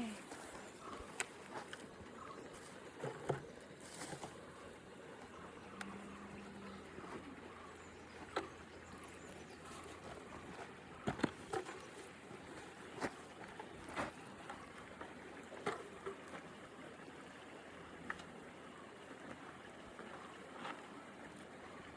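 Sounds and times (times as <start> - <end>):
faint steady background noise: 0.0 - 21.9.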